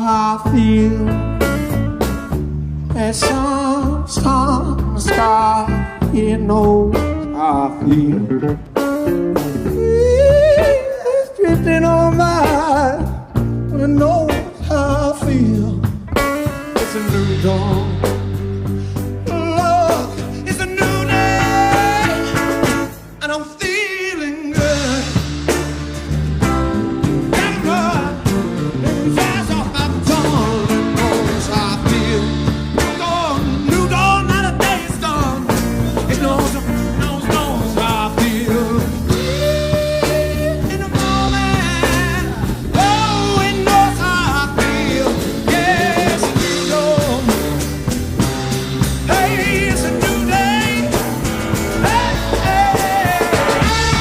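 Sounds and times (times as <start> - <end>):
steady bass line: 0.0 - 10.8, 11.4 - 23.3, 24.6 - 54.0
rock blues song with singing: 0.0 - 54.0.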